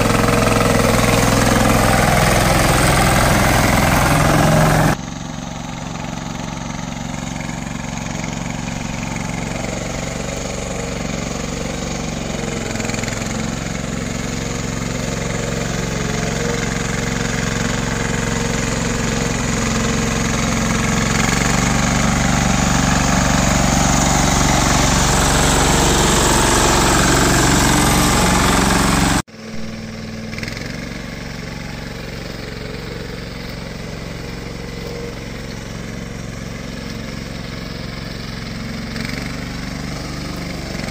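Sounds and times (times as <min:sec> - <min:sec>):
small tractor diesel engine running: 0:00.0 - 0:40.9.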